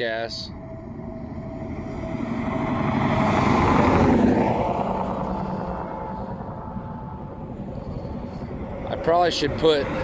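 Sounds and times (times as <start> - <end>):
vehicle passing at speed: 0.6 - 10.0.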